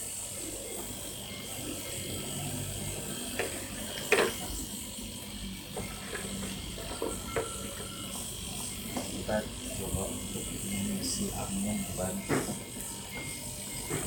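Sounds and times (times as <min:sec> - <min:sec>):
compressor humming: 0:00.0 - 0:14.0.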